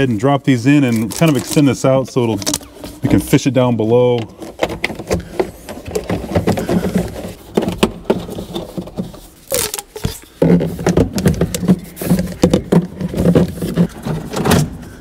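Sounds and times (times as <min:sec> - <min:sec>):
plastic duct tube crinkling and scraping: 0:00.0 - 0:15.0.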